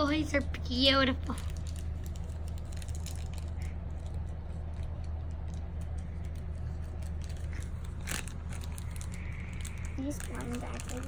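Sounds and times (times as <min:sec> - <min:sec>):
low steady hum: 0:00.0 - 0:11.0
plastic packaging clicking: 0:01.3 - 0:11.0.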